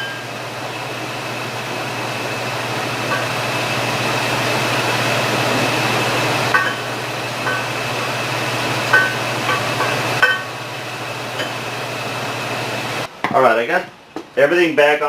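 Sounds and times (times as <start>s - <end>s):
steady machinery hum: 0.0s - 15.0s.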